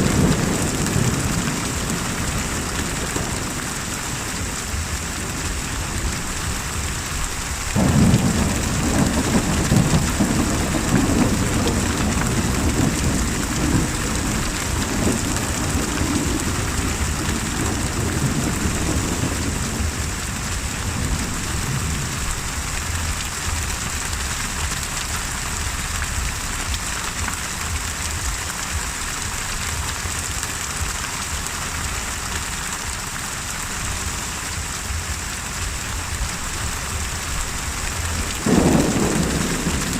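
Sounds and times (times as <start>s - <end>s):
thunder clap and rumble: 0.0s - 33.0s, 33.9s - 39.9s
heavy rain: 0.0s - 39.9s.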